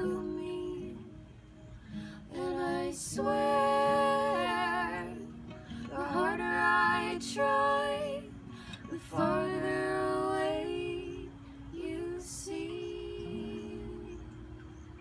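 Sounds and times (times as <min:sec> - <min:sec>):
woman singing: 0:00.0 - 0:01.3, 0:01.9 - 0:14.6
strummed acoustic guitar: 0:00.0 - 0:15.0.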